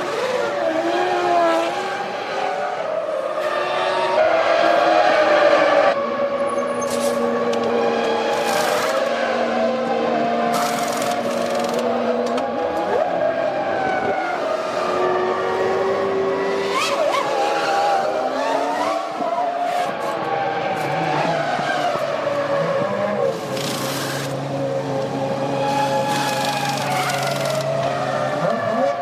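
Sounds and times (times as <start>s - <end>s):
racing car engines: 0.0s - 29.0s.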